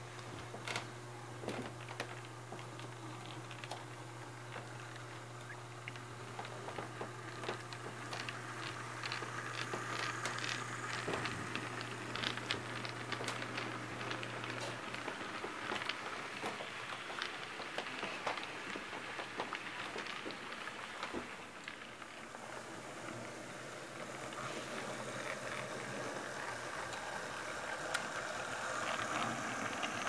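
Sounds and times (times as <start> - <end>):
model train wheels clicking: 1.4 - 30.0.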